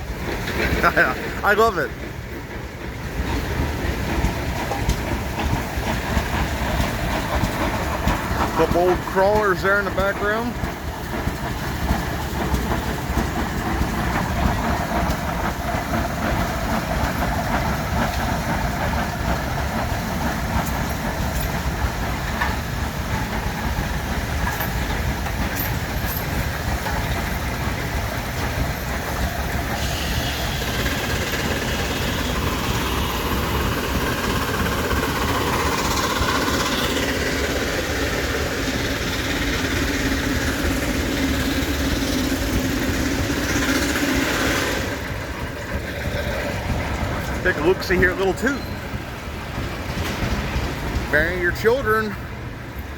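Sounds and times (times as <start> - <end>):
steam engines and tractors running: 0.0 - 52.9.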